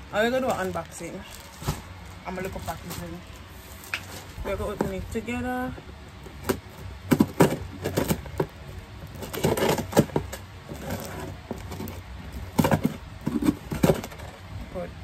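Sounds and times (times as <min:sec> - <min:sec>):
packaging crinkling and rustling: 0:00.1 - 0:05.2, 0:06.1 - 0:14.5.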